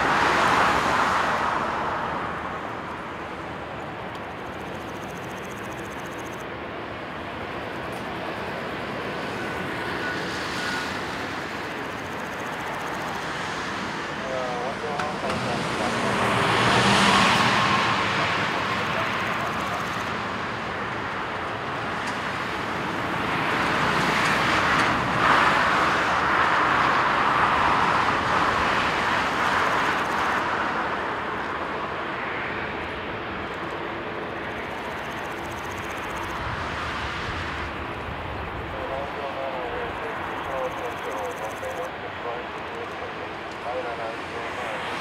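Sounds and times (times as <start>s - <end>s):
jet engine rush: 0.0s - 45.0s.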